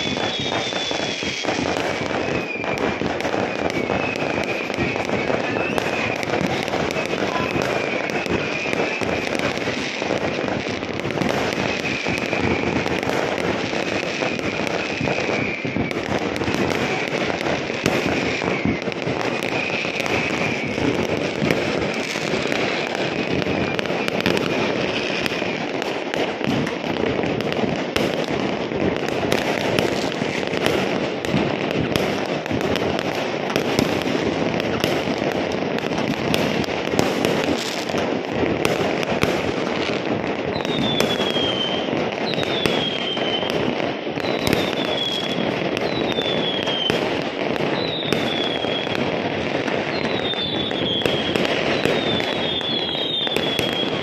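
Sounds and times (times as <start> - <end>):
falling firework whistle: 0.0 - 54.0
fireworks crackling and banging: 0.0 - 54.0.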